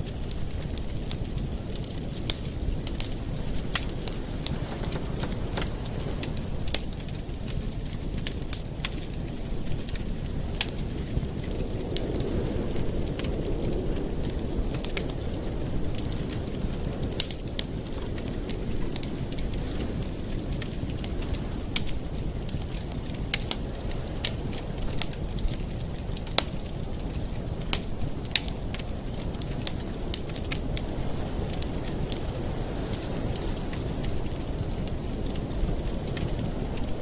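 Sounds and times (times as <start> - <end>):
burning wood crackling and popping: 0.0 - 37.0
campfire flame rushing: 0.0 - 37.0.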